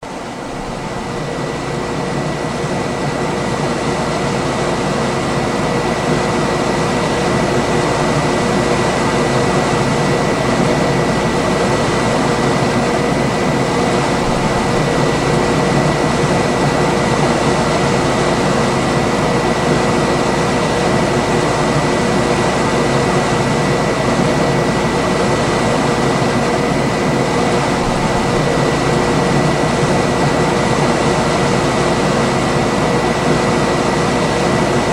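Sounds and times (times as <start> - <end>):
air conditioner fan rush: 0.0 - 34.9
thin high whine: 0.0 - 34.9.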